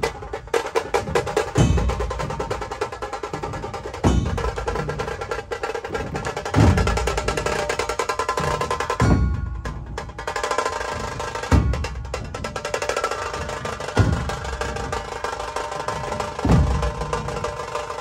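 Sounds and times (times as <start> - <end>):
fast percussion music: 0.0 - 18.0
deep drum thump: 1.0 - 17.8.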